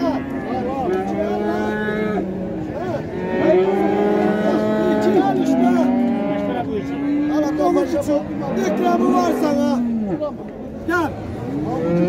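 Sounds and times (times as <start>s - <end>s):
cattle mooing: 0.0s - 10.3s, 11.4s - 12.0s.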